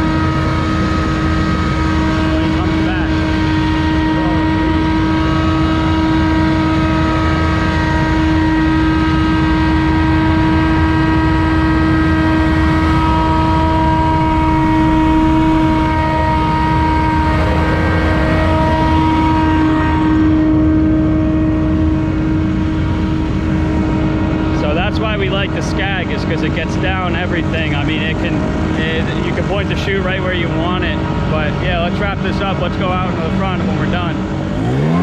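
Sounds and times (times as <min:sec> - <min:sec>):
engine whine: 0:00.0 - 0:35.0
lawn equipment engine drone: 0:00.0 - 0:35.0.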